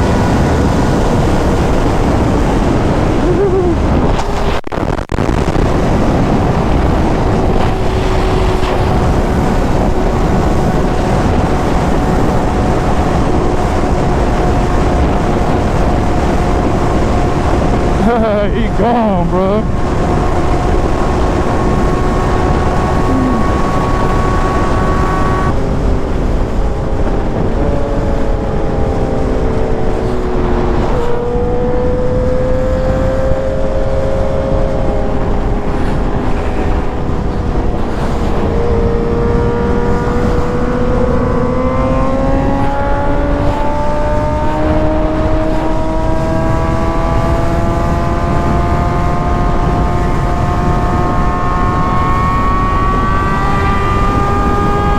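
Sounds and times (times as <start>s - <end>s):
motorcycle engine: 0.0s - 54.9s
wind rush on microphone: 0.0s - 54.9s.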